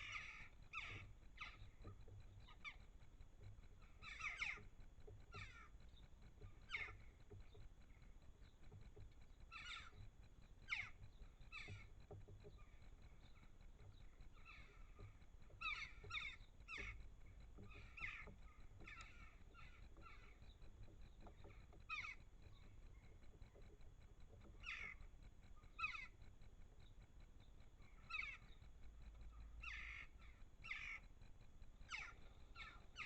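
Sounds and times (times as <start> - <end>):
faint birds calling harshly: 0.0 - 33.0.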